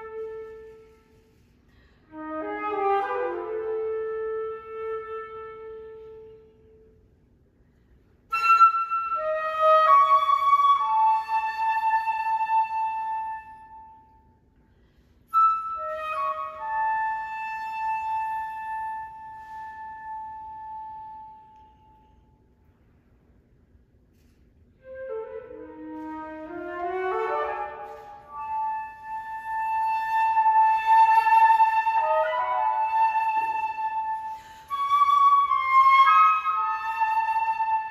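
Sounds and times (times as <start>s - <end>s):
solo flute playing: 0.0s - 7.3s, 8.2s - 22.8s, 24.2s - 37.9s.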